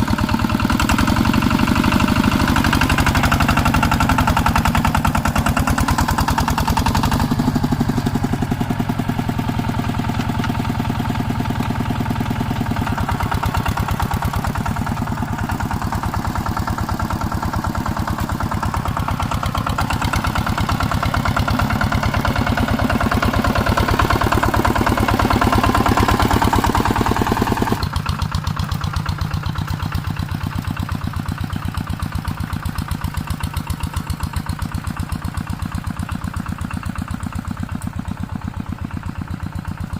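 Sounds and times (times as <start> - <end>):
walking tractor engine chugging: 0.0 - 39.9.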